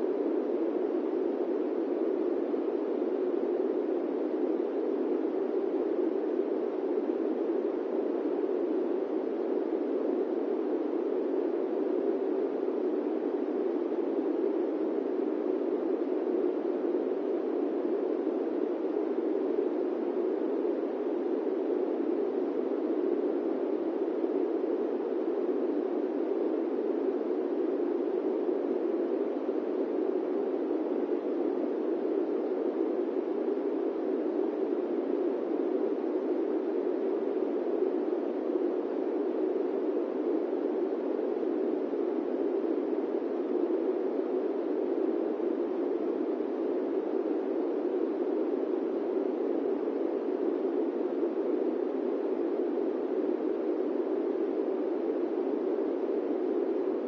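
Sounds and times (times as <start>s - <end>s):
airplane cabin white noise: 0.0s - 57.0s.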